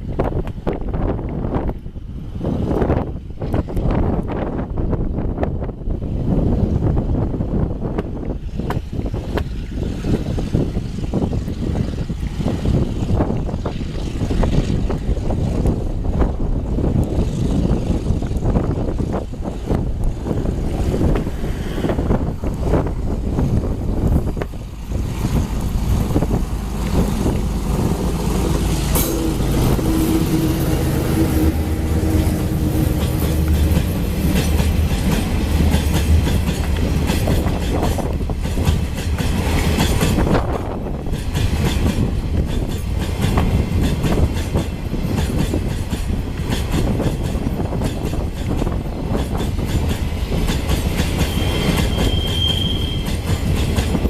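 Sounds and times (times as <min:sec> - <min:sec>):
diesel locomotive engine humming: 0:00.0 - 0:54.0
train wagons rumbling on track: 0:00.0 - 0:54.0.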